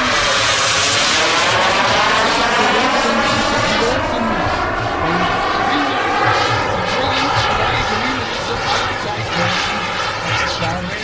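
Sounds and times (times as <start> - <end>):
model jet engines roaring overhead: 0.0 - 11.0.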